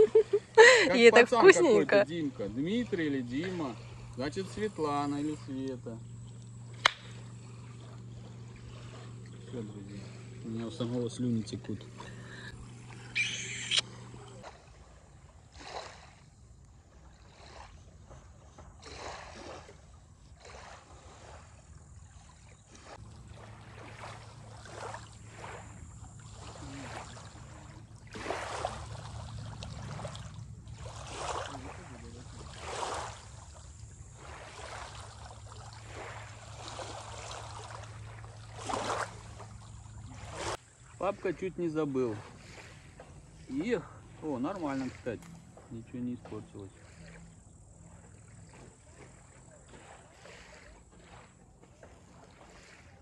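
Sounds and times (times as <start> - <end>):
motorboat engine drone: 0.0 - 53.0
water splashing and lapping: 0.0 - 53.0.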